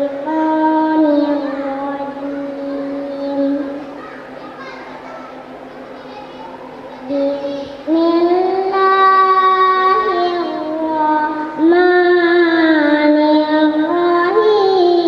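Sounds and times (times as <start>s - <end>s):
girl chanting melodically: 0.0s - 5.4s, 6.0s - 15.0s.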